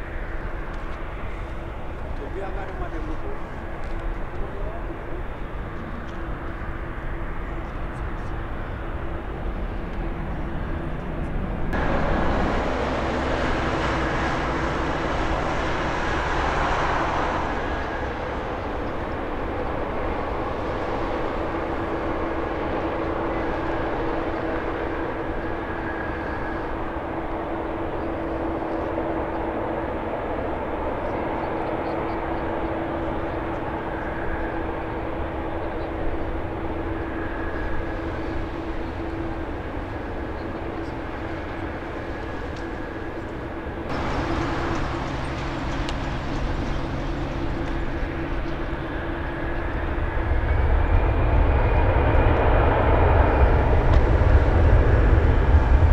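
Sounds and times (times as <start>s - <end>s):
distant jet climbing away: 0.0s - 55.9s
jet engines humming at taxi: 0.0s - 55.9s.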